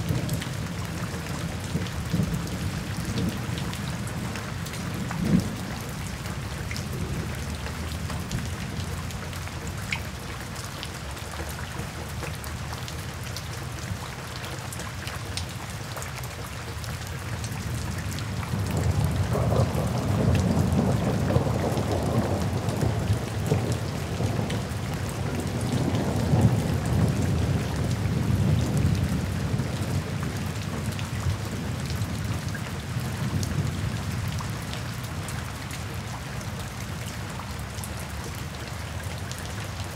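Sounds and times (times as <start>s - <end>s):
rain splashing on wet pavement: 0.0s - 39.9s.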